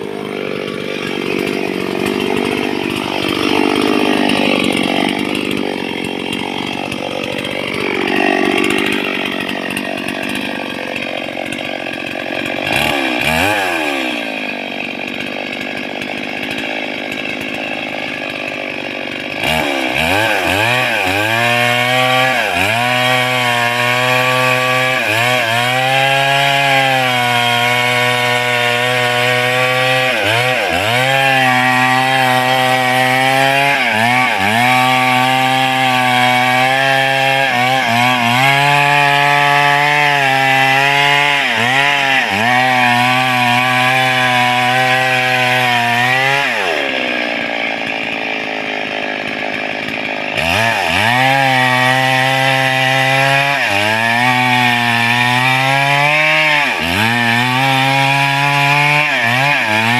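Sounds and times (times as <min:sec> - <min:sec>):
chainsaw cutting into tree trunk: 0:00.0 - 0:59.9.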